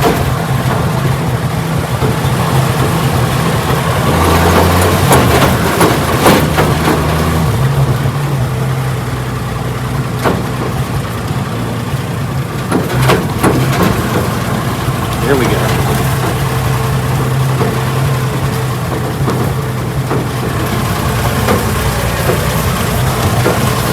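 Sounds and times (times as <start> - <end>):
knocks and rattles over bumps: 0.0 - 23.9
vehicle engine running: 0.0 - 23.9.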